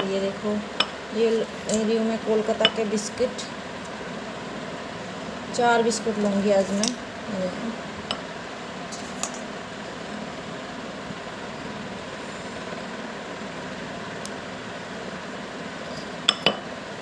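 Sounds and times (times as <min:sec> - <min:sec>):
electric fan whooshing: 0:00.0 - 0:17.0.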